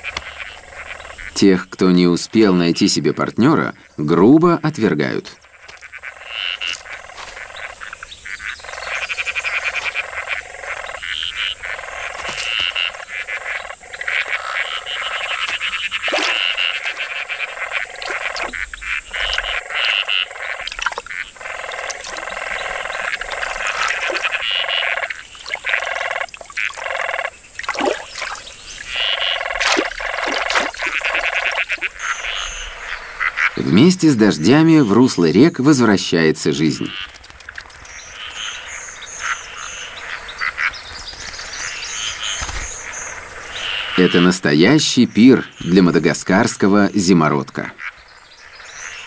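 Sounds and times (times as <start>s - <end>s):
frogs rattling calls: 0.0s - 49.0s.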